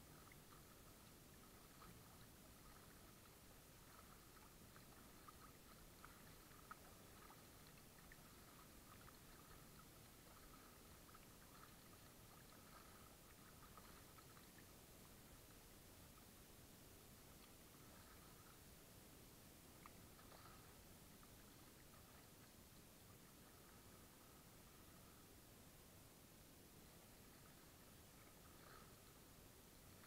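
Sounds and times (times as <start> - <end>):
small ticks and splashes: 0.0 - 25.2, 26.7 - 30.0
water lapping against kayak: 0.0 - 30.0.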